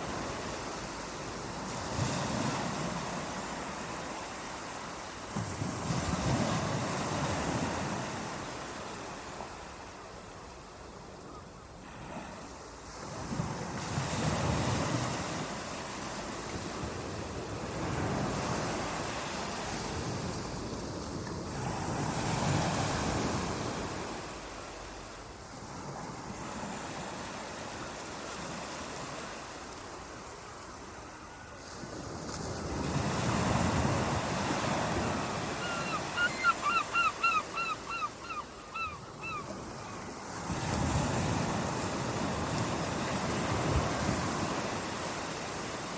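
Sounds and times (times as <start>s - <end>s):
waves breaking on shore: 0.0s - 10.6s, 11.8s - 45.9s.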